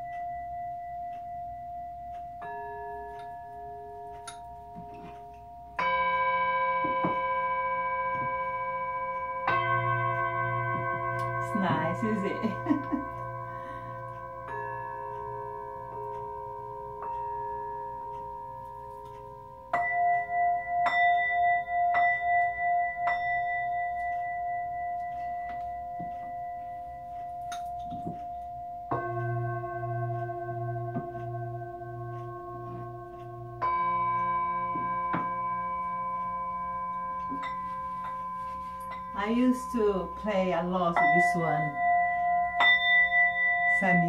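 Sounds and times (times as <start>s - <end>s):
singing bowls ringing: 0.0s - 44.0s.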